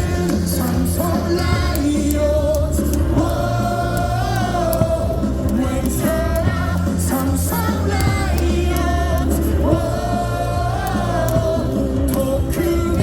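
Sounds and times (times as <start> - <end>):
crowd singing along: 0.0 - 13.0
music with steady bass: 0.0 - 13.0.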